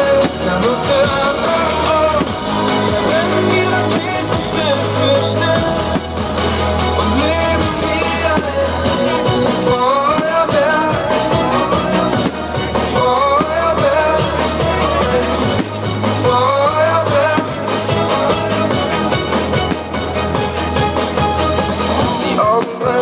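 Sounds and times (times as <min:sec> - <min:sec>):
pop music with lead melody: 0:00.0 - 0:23.0
steady drum beat: 0:00.0 - 0:23.0.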